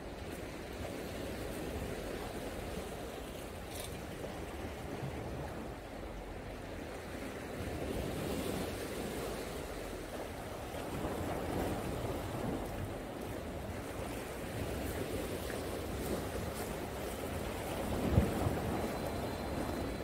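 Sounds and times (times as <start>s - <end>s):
sea waves breaking on rocks: 0.0s - 20.0s.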